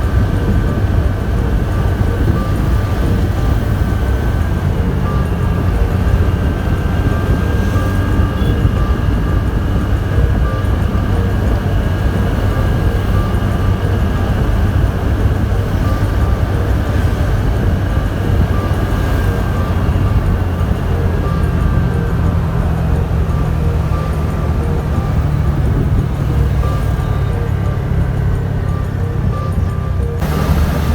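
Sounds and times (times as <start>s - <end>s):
vehicle road and engine rumble: 0.0s - 30.9s.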